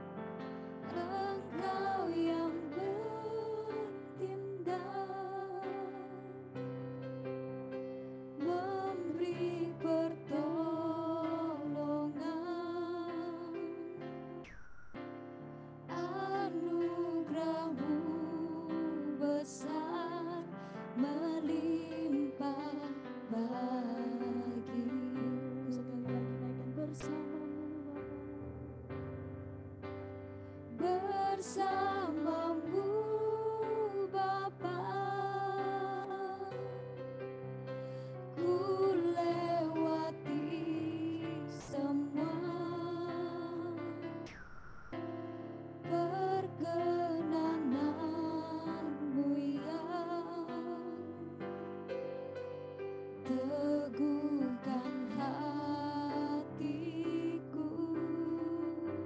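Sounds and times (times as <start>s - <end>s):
women singing worship song: 0.8s - 6.6s, 8.4s - 14.5s, 15.9s - 28.6s, 30.7s - 37.0s, 38.2s - 44.3s, 45.9s - 51.6s, 53.3s - 59.0s.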